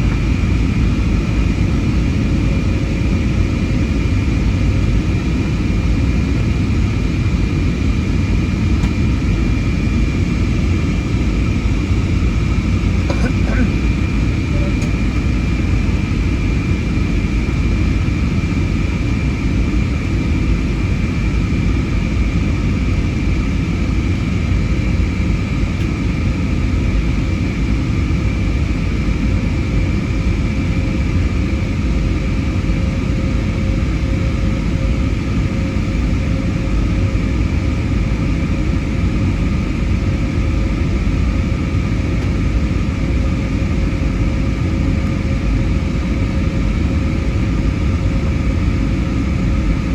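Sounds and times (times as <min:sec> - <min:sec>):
airplane cabin rumble: 0:00.0 - 0:49.9
low whine: 0:00.0 - 0:49.9.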